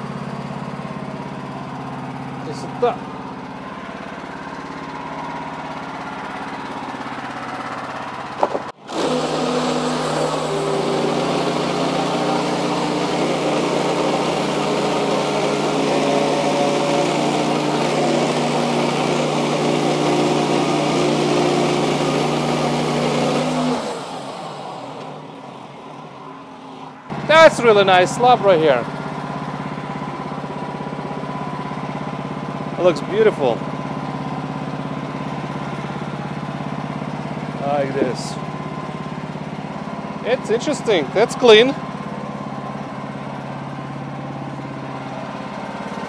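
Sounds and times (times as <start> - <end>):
sawmill engine running: 0.0 - 46.0
band saw cutting log: 2.0 - 46.0.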